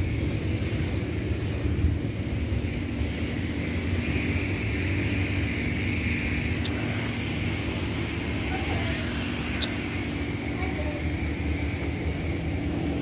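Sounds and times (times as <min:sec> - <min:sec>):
constant hum: 0:00.0 - 0:13.0
low mechanical rumble: 0:00.0 - 0:13.0.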